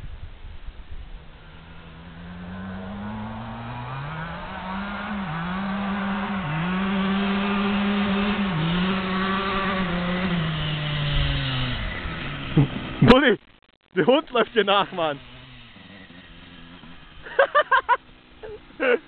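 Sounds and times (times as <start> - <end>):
vehicle engine accelerating: 0.9 - 13.2, 14.3 - 18.9.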